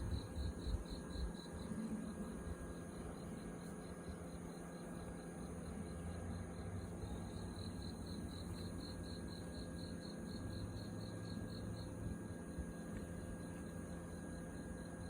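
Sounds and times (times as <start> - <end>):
insect chirping: 0.0 - 6.3, 7.0 - 15.0
steady background hum: 0.0 - 15.0.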